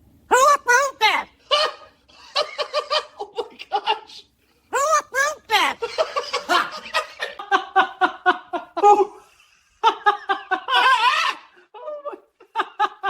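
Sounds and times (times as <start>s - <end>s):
high-pitched laughter: 0.4s - 13.0s.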